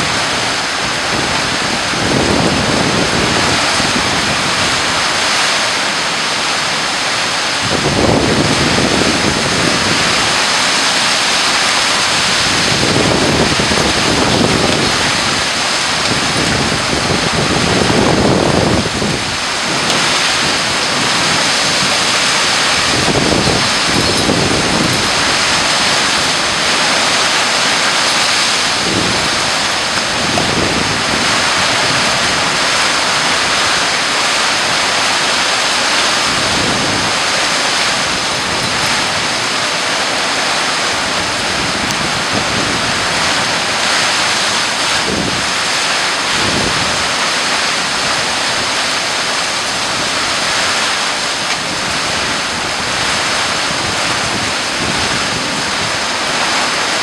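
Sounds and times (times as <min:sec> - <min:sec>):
heavy rain: 0:00.0 - 0:57.0
wind gusts buffeting microphone: 0:00.0 - 0:57.0.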